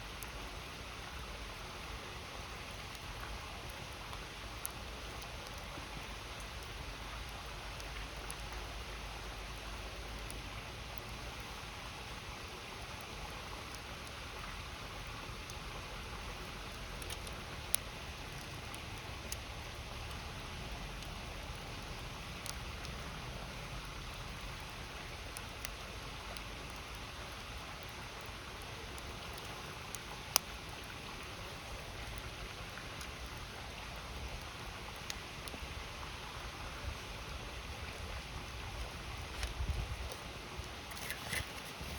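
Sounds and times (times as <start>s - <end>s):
river flowing: 0.0s - 41.9s
wood fire crackling and popping: 0.1s - 41.9s.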